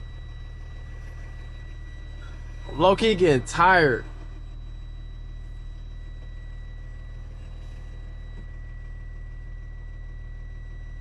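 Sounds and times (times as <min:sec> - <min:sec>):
faint high-pitched whine: 0:00.0 - 0:11.0
truck engine drone: 0:00.0 - 0:11.0.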